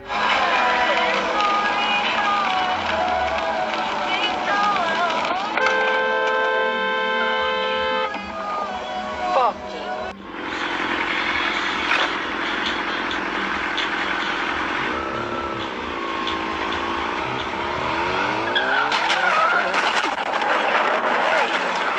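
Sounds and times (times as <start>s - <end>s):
car engine and road noise: 0.0s - 21.9s.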